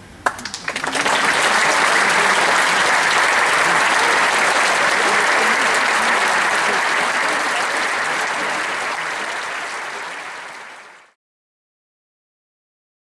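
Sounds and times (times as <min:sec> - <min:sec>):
audience applauding: 0:00.2 - 0:11.2.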